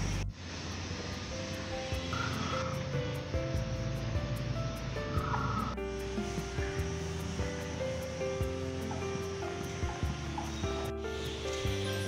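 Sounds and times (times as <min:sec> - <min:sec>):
music over steady beat: 0:00.0 - 0:12.0.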